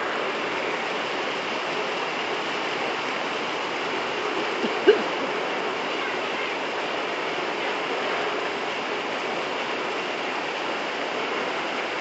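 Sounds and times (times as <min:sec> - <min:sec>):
water rushing along street: 0:00.0 - 0:12.0.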